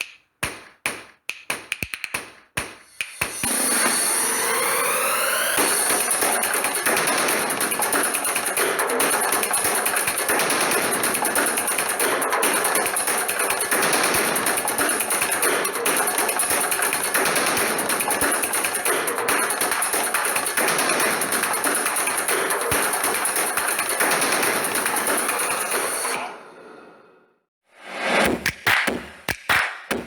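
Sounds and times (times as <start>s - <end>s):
music with fast tapping percussion: 0.0s - 26.2s, 28.2s - 30.0s.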